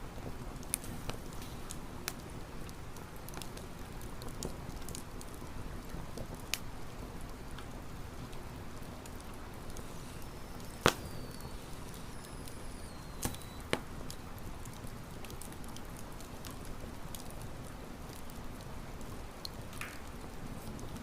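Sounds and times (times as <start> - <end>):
campfire burning: 0.0 - 21.0
campfire wood crackling: 0.0 - 21.0.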